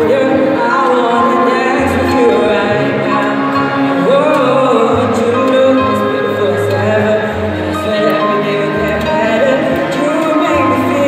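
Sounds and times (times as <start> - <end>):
acoustic guitar: 0.0 - 11.0
keyboard: 0.0 - 11.0
person singing: 0.0 - 11.0.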